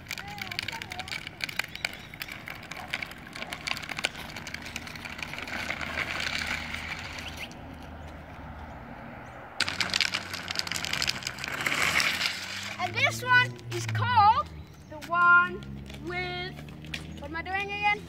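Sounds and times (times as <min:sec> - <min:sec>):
trike wheels scraping on asphalt: 0:00.0 - 0:18.0.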